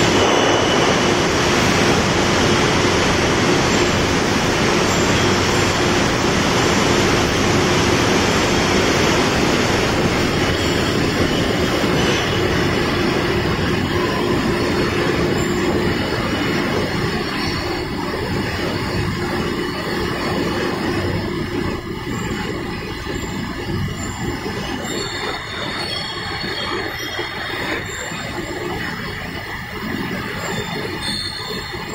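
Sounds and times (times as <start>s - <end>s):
factory machinery noise: 0.0s - 31.9s
steady hum: 0.0s - 31.9s.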